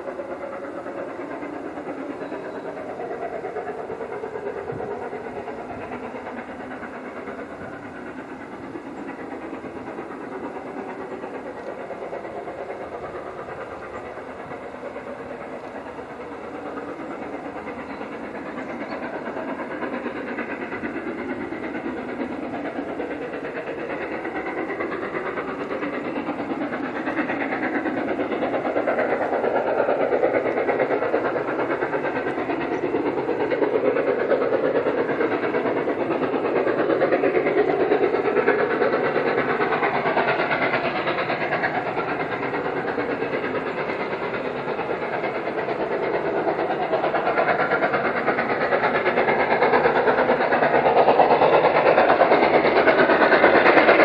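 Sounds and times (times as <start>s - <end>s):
steam locomotive working hard: 0.0s - 54.0s.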